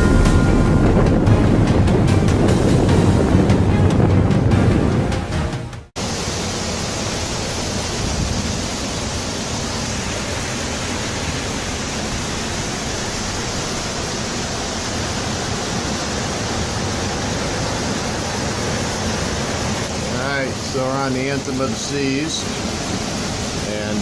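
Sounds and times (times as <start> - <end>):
storm wind blowing: 0.0 - 24.0.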